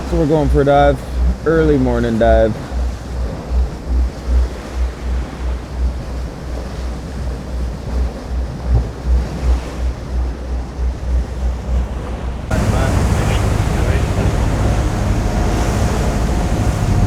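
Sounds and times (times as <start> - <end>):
sea water washing: 0.0 - 17.0
wind buffeting microphone: 0.0 - 17.0.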